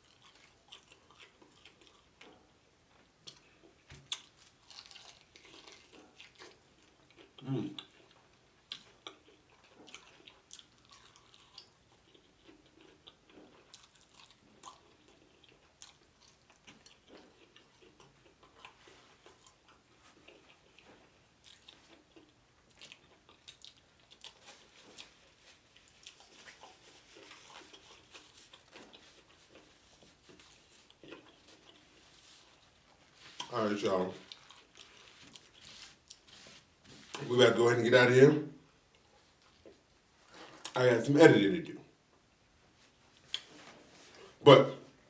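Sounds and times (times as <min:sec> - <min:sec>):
chewing crispy food: 0:00.0 - 0:37.3, 0:38.7 - 0:40.8, 0:42.0 - 0:44.5.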